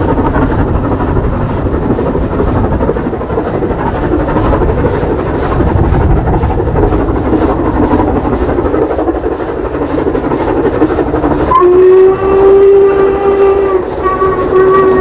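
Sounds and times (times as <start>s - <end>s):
steam locomotive exhaust: 0.0s - 15.0s
wind buffeting microphone: 0.0s - 15.0s.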